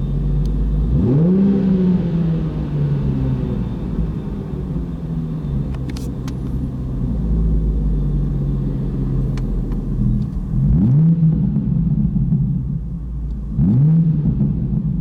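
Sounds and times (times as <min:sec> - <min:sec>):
low exhaust rumble: 0:00.0 - 0:15.0.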